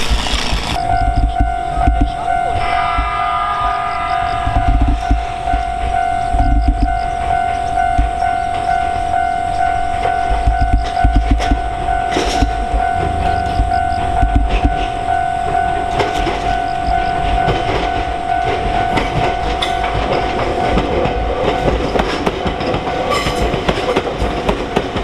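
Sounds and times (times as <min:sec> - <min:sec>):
train wheels clattering: 0:00.0 - 0:25.0
steady high ringing tone: 0:00.8 - 0:23.6.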